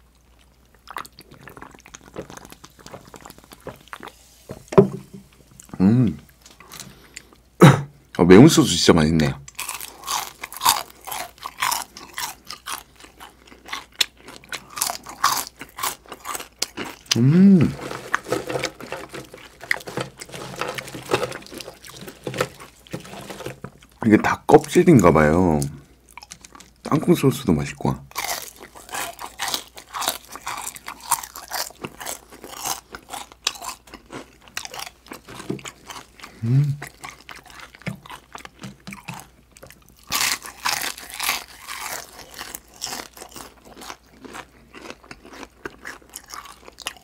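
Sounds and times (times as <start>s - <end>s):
crunchy chewing: 0.0s - 4.3s, 5.4s - 7.5s, 9.4s - 24.0s, 25.5s - 27.0s, 28.1s - 47.0s.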